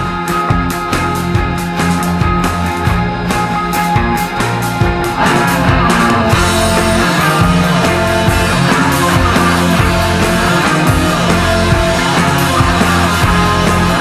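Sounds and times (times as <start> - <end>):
instrumental rock music: 0.0 - 14.0.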